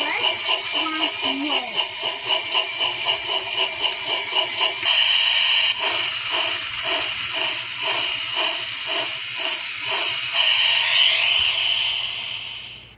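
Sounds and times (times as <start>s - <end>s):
steam locomotive chuffing effect: 0.0s - 12.9s.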